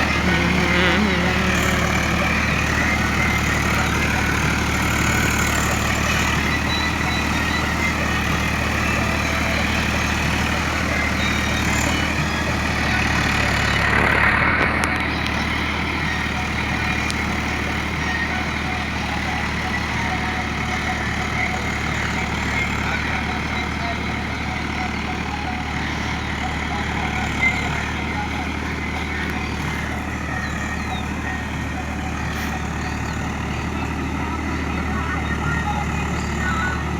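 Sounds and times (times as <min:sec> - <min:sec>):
diesel tractor engine running: 0:00.0 - 0:36.9.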